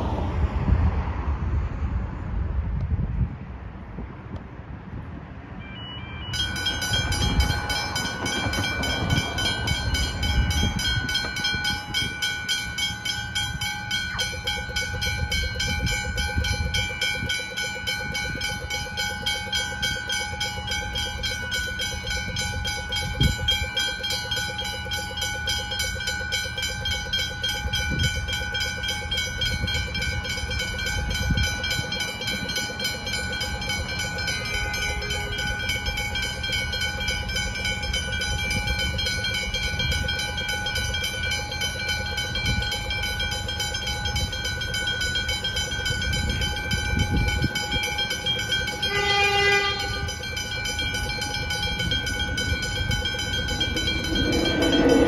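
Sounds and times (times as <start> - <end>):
road traffic rumble: 0.0 - 55.0
level crossing bells ringing: 5.6 - 55.0
lower-pitched bell ringing: 5.6 - 55.0.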